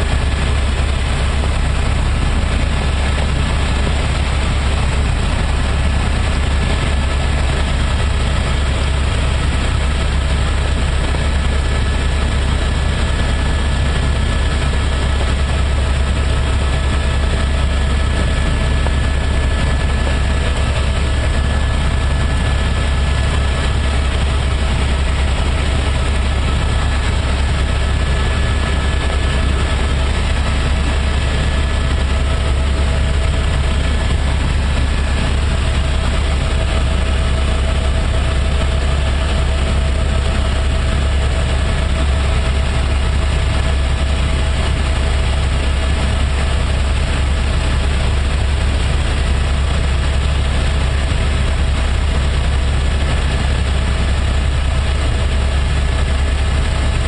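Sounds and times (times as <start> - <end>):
helicopter drone: 0.0 - 57.0.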